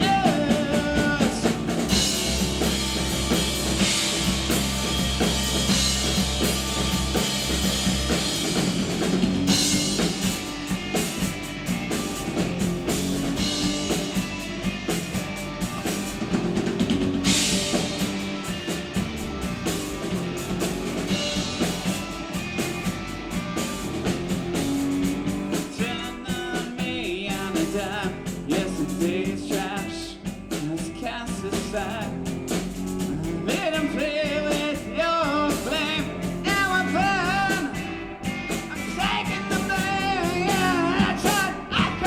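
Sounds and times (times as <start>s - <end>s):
drum kit beat: 0.0s - 42.0s
instrumental rock band: 0.0s - 42.0s.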